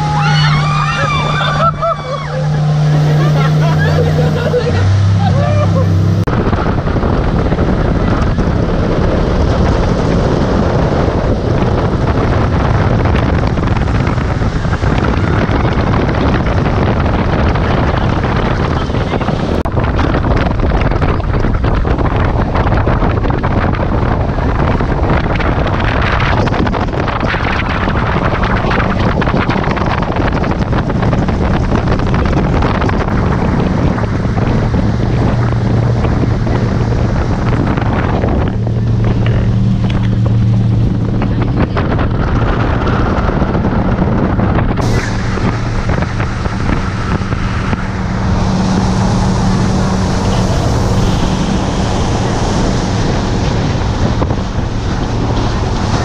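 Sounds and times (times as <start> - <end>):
speedboat engine humming: 0.0 - 56.0
water rushing off hull: 0.0 - 56.0
wind buffeting microphone: 0.0 - 56.0.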